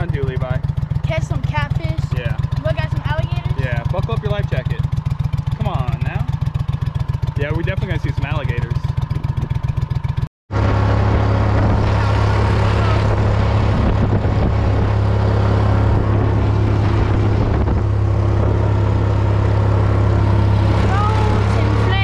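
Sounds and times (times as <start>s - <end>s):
boat motor drone: 0.0s - 22.0s.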